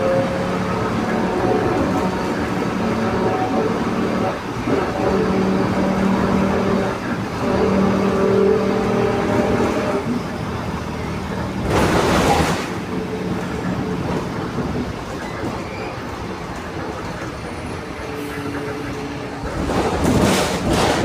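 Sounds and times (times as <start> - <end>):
diesel bus engine running: 0.0 - 21.0.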